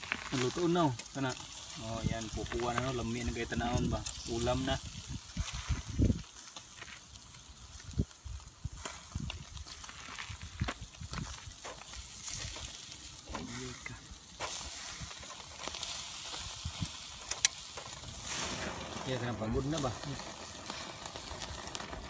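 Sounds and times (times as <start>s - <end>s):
meat sizzling on grill: 0.0s - 22.0s
small crackles and pops: 0.0s - 22.0s.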